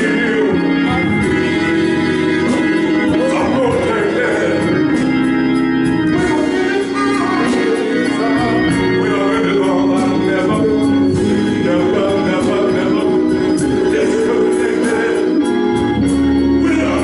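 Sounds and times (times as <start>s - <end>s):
man singing gospel song: 0.0s - 17.0s
organ sustained chords: 0.0s - 17.0s.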